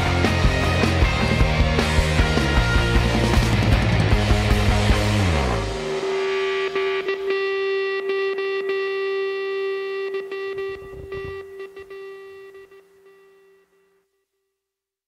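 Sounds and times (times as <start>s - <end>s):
distorted electric guitar note: 0.0s - 13.8s.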